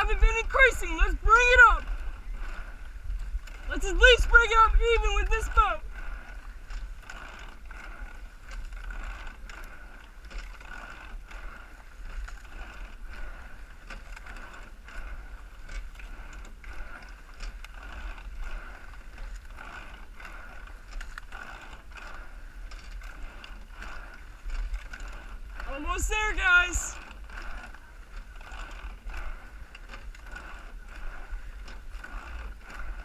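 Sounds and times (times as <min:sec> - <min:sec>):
oars clunking in oarlocks: 0:00.0 - 0:33.0
regular clicking of strokes: 0:00.0 - 0:33.0
seats rattling on slides: 0:00.0 - 0:33.0.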